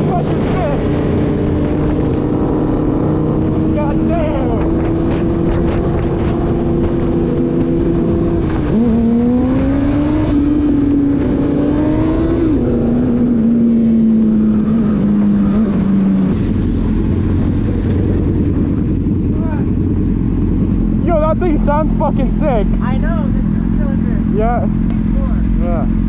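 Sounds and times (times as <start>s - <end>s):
road and wind noise: 0.0s - 26.0s
vehicle engine at speed: 0.0s - 26.0s.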